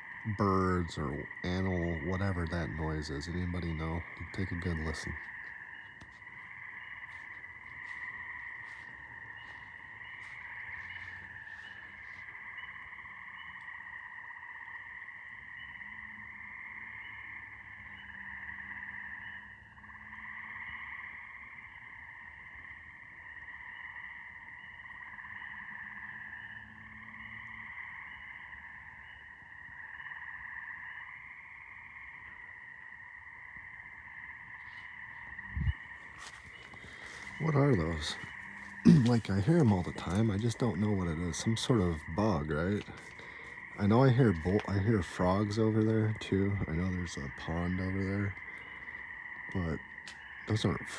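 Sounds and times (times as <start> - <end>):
frogs trilling: 0.0 - 50.9.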